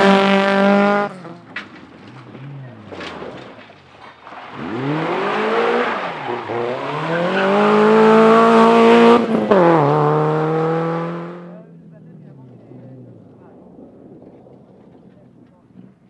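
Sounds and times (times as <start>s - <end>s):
rally car engine revving: 0.0s - 15.9s.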